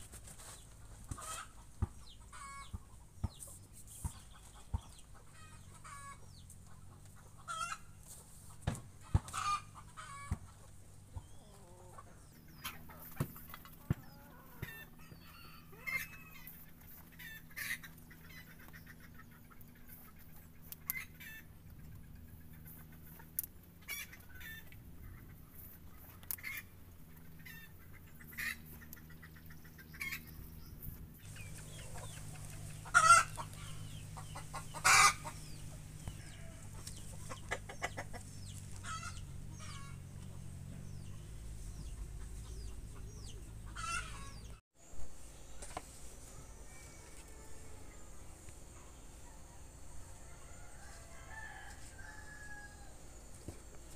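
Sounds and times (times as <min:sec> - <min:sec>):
chickens clucking: 0:00.0 - 0:44.6
low steady hum: 0:00.0 - 0:53.9.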